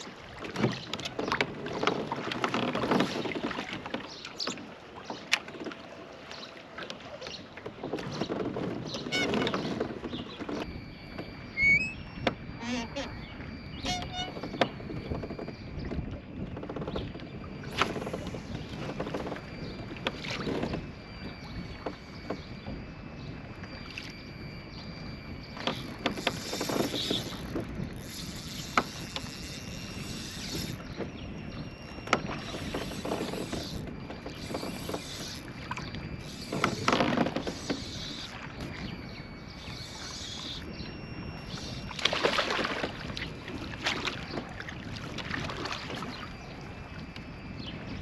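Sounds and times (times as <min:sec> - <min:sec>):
water lapping against kayak hull: 0:00.0 - 0:48.0
wind: 0:00.0 - 0:48.0.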